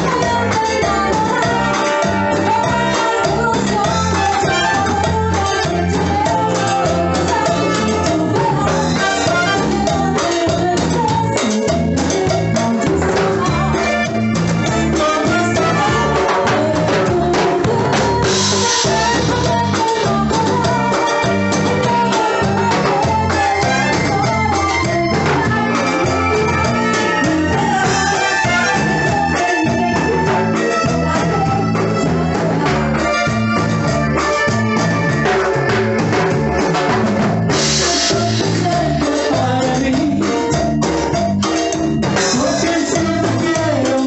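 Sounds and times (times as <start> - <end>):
live band playing latin dance music: 0.0 - 44.0.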